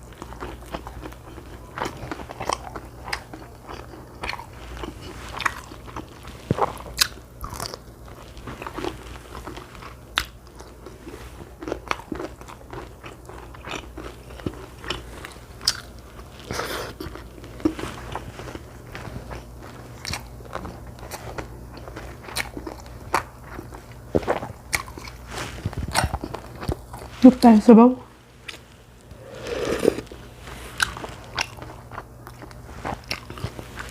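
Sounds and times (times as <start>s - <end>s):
chewing and biting crunches: 0.0s - 27.2s, 28.4s - 33.9s.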